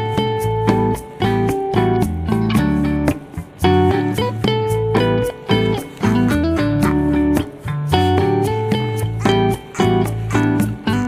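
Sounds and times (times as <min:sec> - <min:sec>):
music with held notes and beat: 0:00.0 - 0:11.0.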